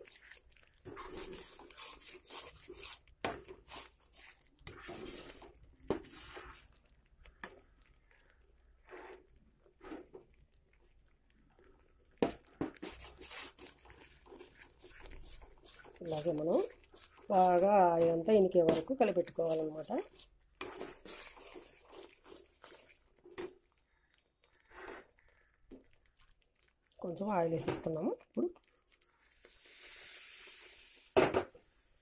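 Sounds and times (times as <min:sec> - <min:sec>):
spoon scraping thick batter: 0:00.0 - 0:10.8, 0:11.5 - 0:26.8.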